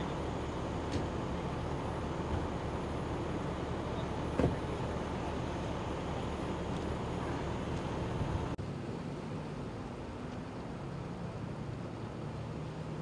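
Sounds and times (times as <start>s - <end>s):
low rumble of vehicles: 0.0s - 13.0s.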